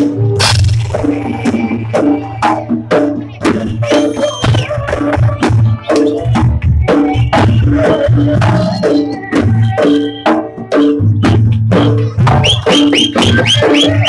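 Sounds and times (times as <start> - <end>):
drum beat: 0.0 - 14.0.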